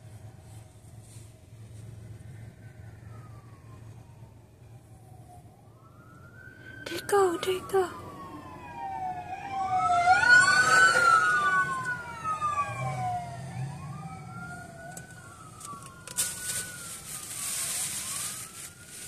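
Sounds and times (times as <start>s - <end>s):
emergency vehicle sirens wailing: 0.0s - 19.0s.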